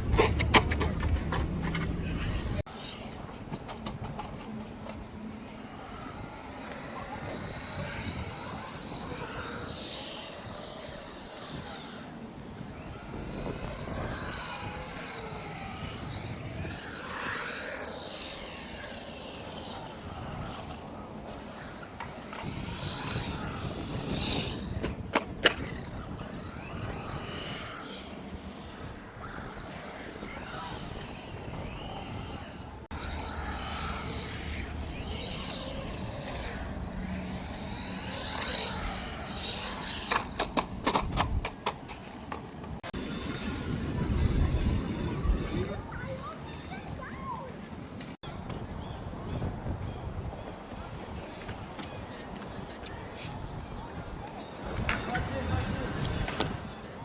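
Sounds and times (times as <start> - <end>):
tyre and gear noise: 0.0 - 47.0
rc truck electric motor whining: 1.2 - 47.0, 50.7 - 57.0.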